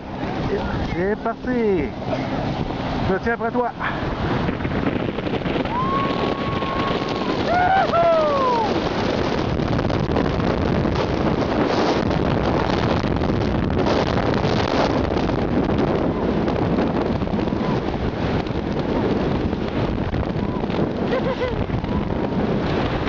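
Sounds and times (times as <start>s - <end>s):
snow tube sliding on snow: 0.0s - 23.0s
wind buffeting microphone: 0.0s - 23.0s.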